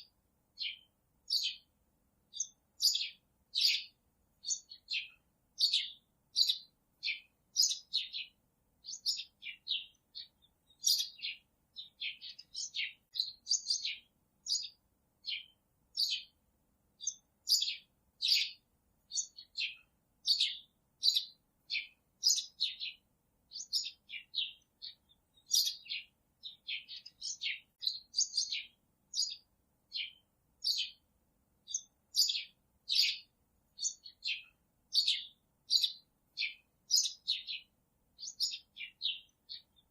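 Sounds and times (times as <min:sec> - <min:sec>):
birds chirping: 0:00.0 - 0:01.7, 0:02.3 - 0:16.4, 0:17.0 - 0:31.0, 0:31.6 - 0:39.9.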